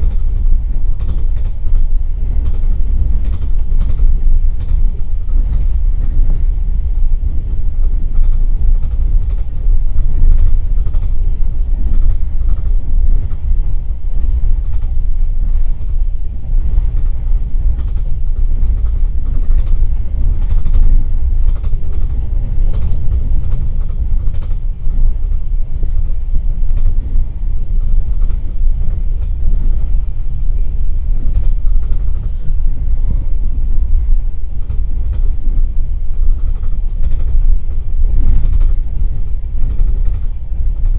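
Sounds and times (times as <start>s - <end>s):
train wheels rumbling on track: 0.0s - 40.9s
faint clicks and knocks: 2.4s - 6.4s, 7.6s - 16.0s, 16.7s - 40.9s.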